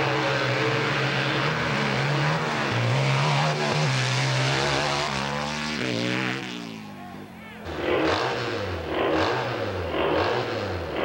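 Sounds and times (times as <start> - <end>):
motorcycle engine revving: 0.0 - 6.8, 7.6 - 11.0.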